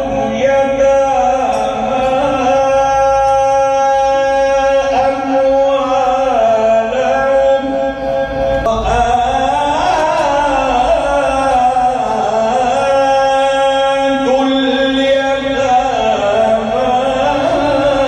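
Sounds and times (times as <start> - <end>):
person chanting recitation: 0.0 - 18.0.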